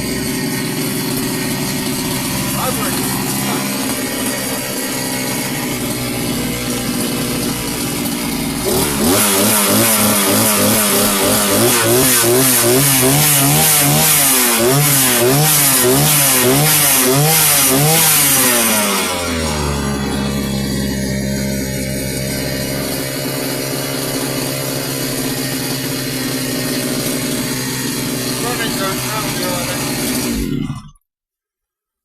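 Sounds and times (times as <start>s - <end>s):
strimmer engine idling and revving: 0.0s - 31.0s.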